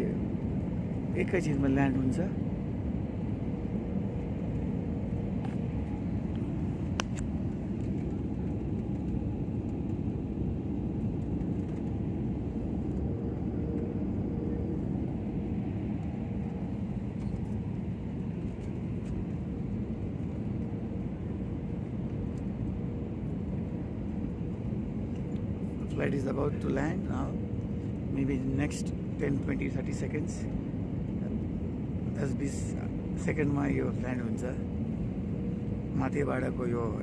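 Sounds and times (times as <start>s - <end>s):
jet cabin engine roar: 0.0s - 37.0s.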